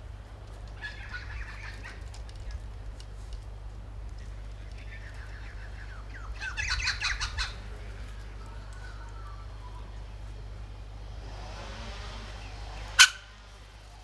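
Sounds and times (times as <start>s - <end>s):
steady low rumble: 0.0s - 14.0s
wild birds chirping: 0.0s - 14.0s.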